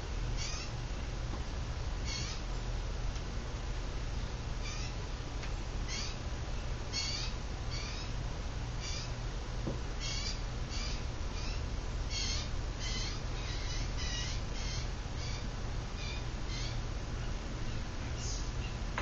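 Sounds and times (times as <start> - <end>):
ceiling fan motor hum: 0.0 - 19.0.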